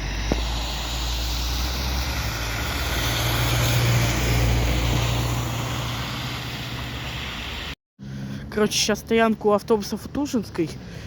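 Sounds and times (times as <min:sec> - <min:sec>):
bus engine running: 0:00.0 - 0:09.0
street traffic noise: 0:00.0 - 0:11.0.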